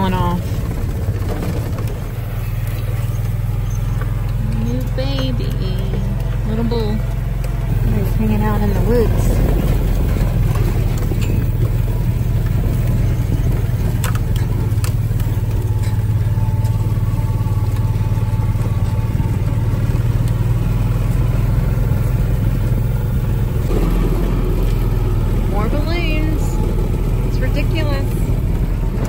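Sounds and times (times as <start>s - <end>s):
utility vehicle engine drone: 0.0s - 29.0s.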